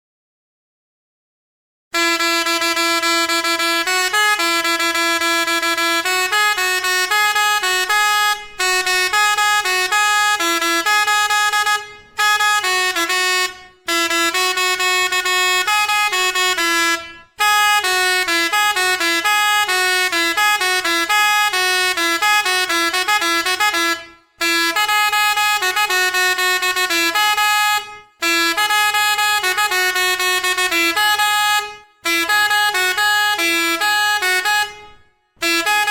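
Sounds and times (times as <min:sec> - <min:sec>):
musical air horn melodies: 0:01.9 - 0:35.9.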